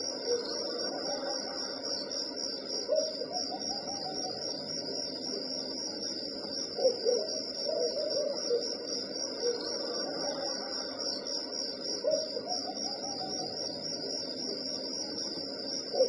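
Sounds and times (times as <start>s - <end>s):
crickets chirping: 0.0s - 16.0s
lower louder insect calls: 0.0s - 16.0s.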